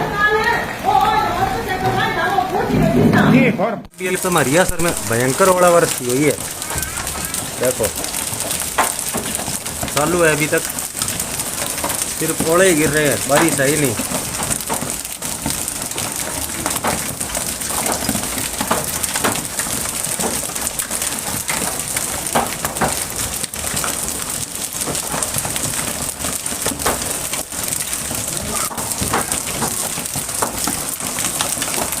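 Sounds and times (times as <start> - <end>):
hailstones pelting: 3.9 - 32.0.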